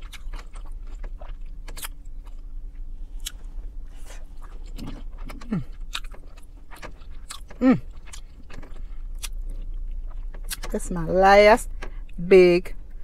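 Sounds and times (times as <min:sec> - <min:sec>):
person chewing with wet smacking: 0:00.0 - 0:10.7.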